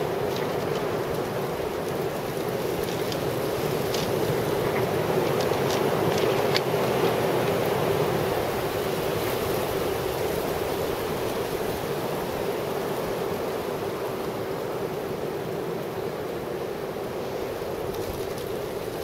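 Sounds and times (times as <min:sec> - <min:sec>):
gusting wind: 0:00.0 - 0:19.0.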